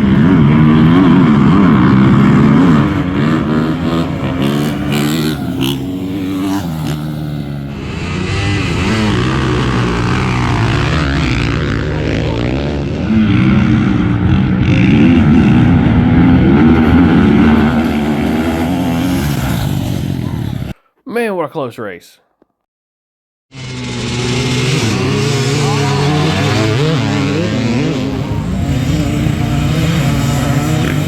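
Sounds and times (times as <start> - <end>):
dirt bike engines revving: 0.0 - 20.8, 23.5 - 31.0.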